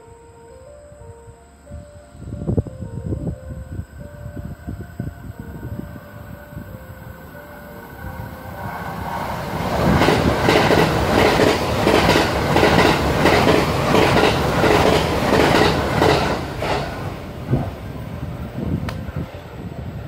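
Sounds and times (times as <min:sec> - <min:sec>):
electric train passing at speed: 0:00.0 - 0:20.0.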